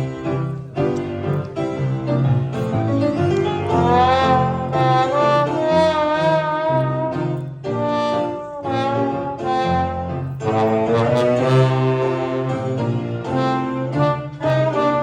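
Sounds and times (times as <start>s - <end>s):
orchestra with prominent brass: 0.0s - 15.0s.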